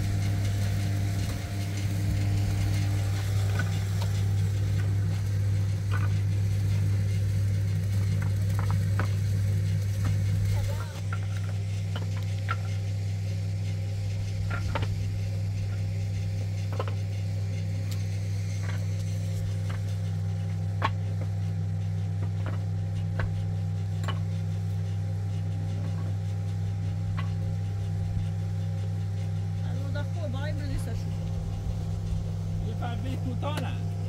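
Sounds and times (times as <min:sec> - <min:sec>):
low engine drone: 0:00.0 - 0:34.0.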